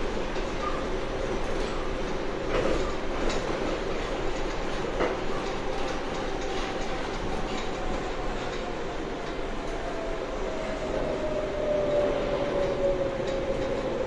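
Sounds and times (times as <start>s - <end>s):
train running drone: 0.0s - 14.0s.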